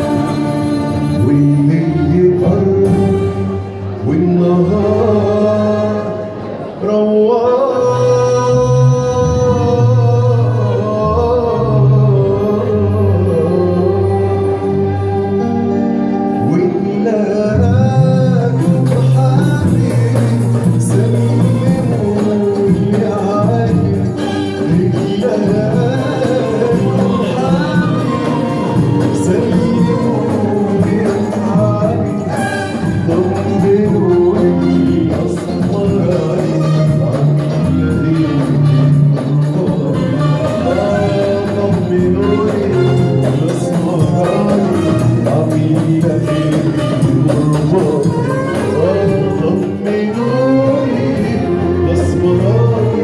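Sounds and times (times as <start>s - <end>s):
bass line: 0.0s - 6.1s, 7.6s - 53.0s
man singing long notes: 0.0s - 53.0s
orchestra playing: 0.0s - 53.0s.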